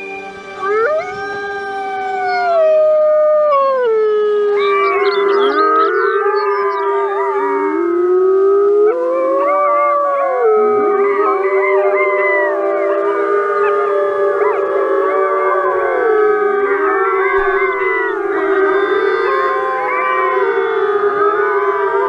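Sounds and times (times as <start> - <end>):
wolves howling in chorus: 0.0 - 22.0.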